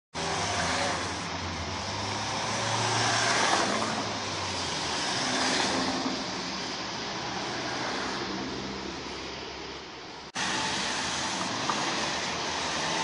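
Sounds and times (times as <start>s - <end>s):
cars passing: 0.2s - 13.0s.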